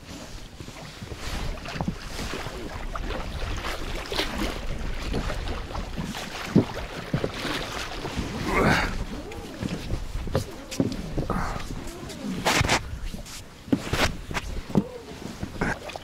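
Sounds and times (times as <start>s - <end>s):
water noise: 0.0s - 16.0s
wind: 0.0s - 16.0s.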